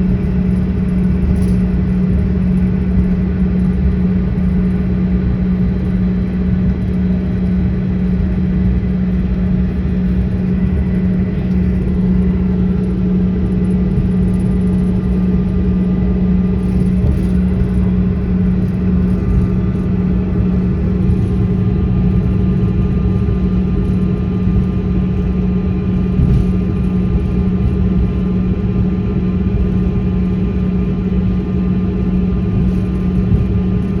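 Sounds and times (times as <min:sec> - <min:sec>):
jet airliner cabin rumble: 0:00.0 - 0:34.0.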